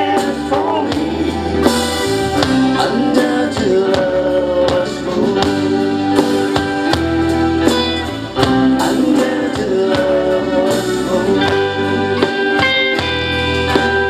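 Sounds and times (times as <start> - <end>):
person singing: 0.0 - 13.1
guitar: 0.0 - 14.0
live band playing: 0.0 - 14.0.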